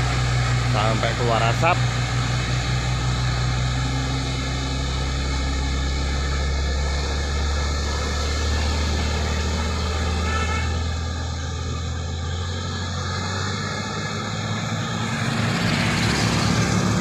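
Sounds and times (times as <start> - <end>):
truck diesel engine labouring: 0.0 - 17.0.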